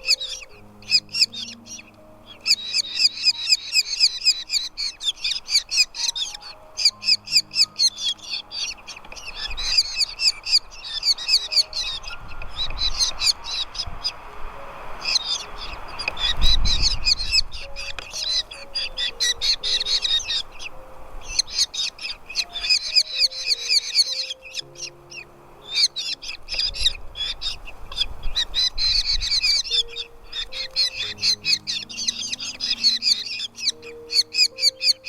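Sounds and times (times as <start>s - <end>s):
faint background music: 0.0s - 35.0s
nestling birds chirping: 0.0s - 35.0s.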